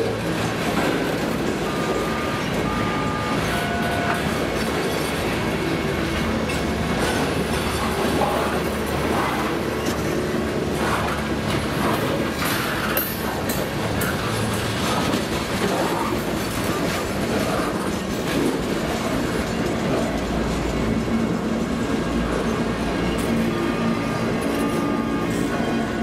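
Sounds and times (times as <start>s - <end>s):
freight train cars rumbling: 0.0s - 26.0s
wheels clattering over rail joints: 0.0s - 26.0s.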